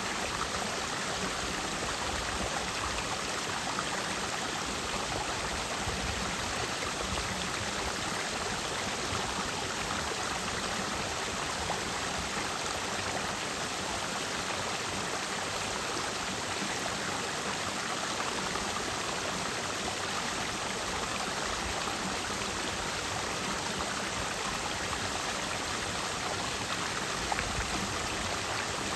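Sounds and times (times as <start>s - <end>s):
stream flowing over rocks: 0.0s - 28.9s.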